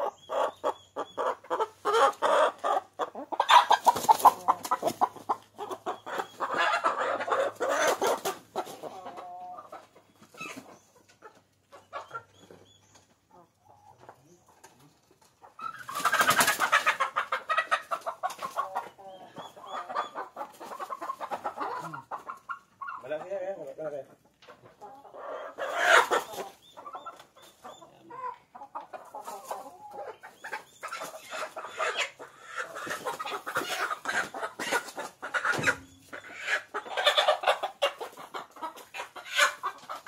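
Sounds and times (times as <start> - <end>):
chickens squawking and clucking: 0.0 - 40.0.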